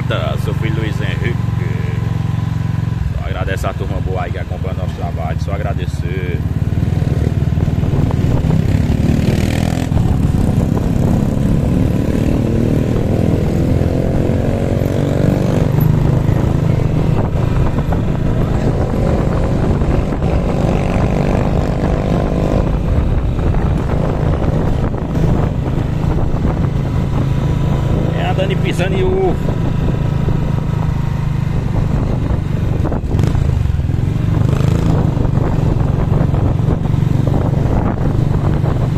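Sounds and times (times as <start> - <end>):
vehicle engine accelerating: 5.7 - 38.9.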